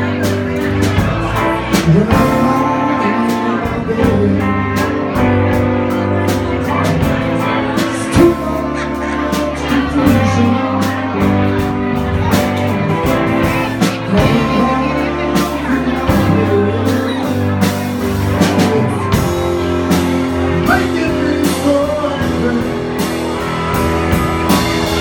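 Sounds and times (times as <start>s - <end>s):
electric bass: 0.0s - 25.0s
electric guitar: 0.0s - 25.0s
live rock-blues band: 0.0s - 25.0s.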